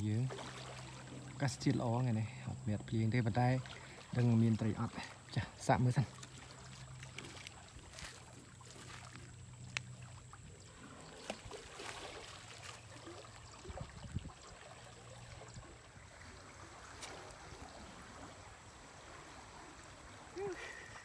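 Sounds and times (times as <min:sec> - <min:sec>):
flowing water hiss: 0:00.0 - 0:21.0.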